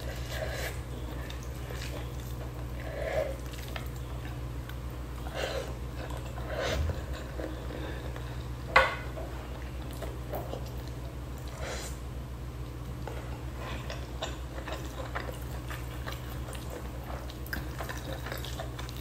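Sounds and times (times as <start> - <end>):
quiet chewing: 0.0 - 19.0
steady low hum: 0.0 - 19.0.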